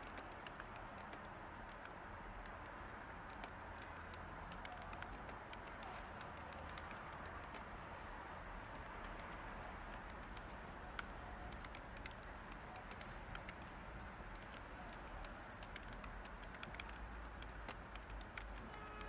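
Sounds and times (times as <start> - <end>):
typing on keyboard: 0.0 - 19.0.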